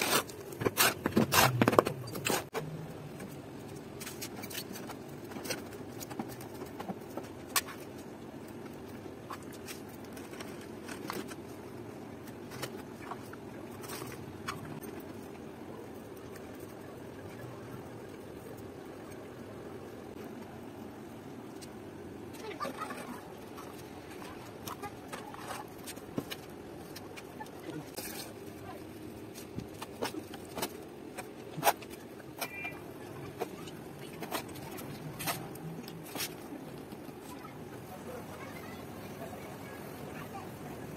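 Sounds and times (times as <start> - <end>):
low background hum: 0.0 - 40.9.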